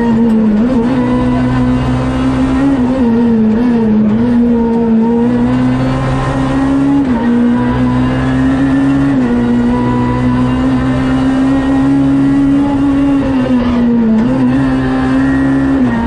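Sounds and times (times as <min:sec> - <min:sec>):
rally car engine at high revs: 0:00.0 - 0:16.0.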